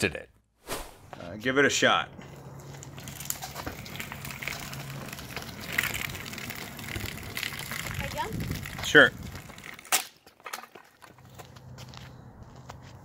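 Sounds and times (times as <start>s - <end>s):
scooter wheel rolling on concrete: 1.1s - 13.0s.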